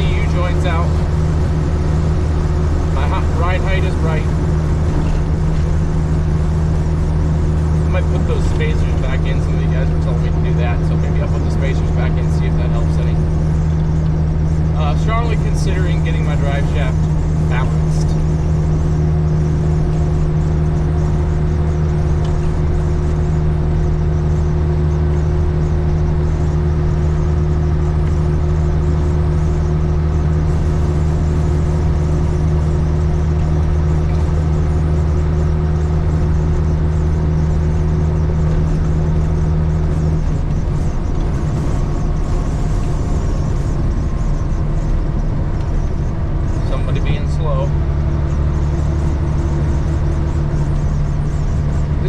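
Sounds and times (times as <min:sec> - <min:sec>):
road noise: 0:00.0 - 0:52.0
truck engine droning: 0:00.0 - 0:52.0.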